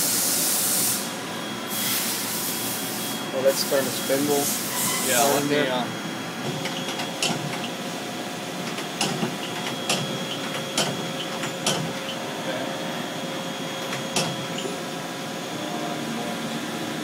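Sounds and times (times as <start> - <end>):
lathe spindle humming and whining: 0.0 - 17.0.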